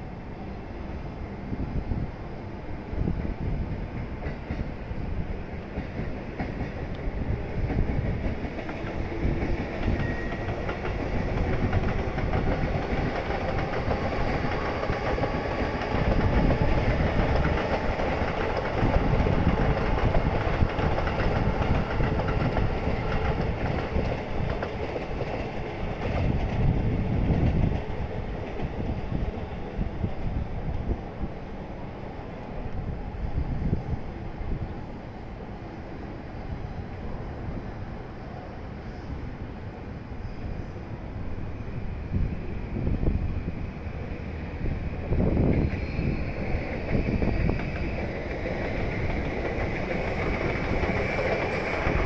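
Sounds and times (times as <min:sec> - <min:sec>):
electric train rumbling past: 0:00.0 - 0:52.0.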